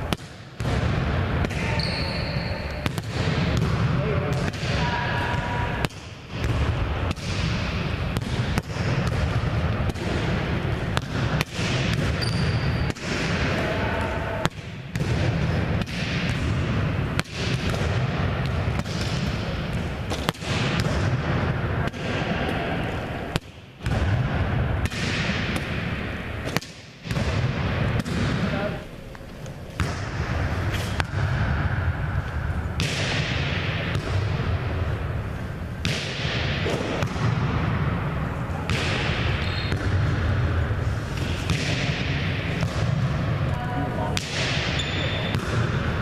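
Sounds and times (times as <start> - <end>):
volleyballs hitting hands: 0.0 - 1.8, 2.7 - 28.6, 29.8 - 31.6, 32.2 - 34.8, 35.8 - 37.8, 38.6 - 40.4, 41.0 - 43.5, 44.1 - 46.0.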